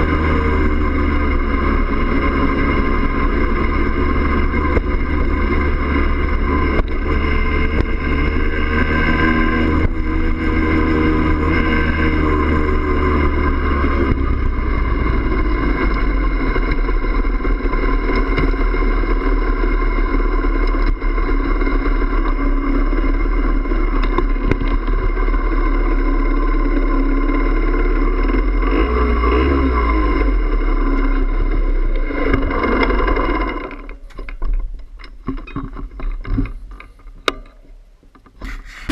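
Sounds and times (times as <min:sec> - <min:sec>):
two-stroke motorcycle engine running: 0:00.0 - 0:37.6.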